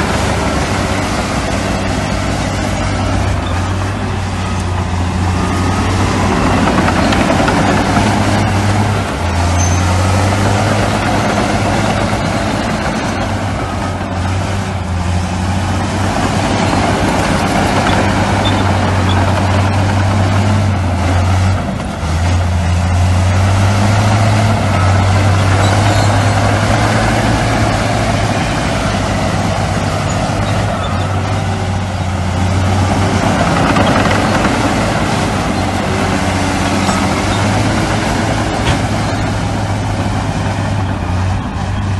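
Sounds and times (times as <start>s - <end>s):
heavy diesel engine droning: 0.0s - 41.9s.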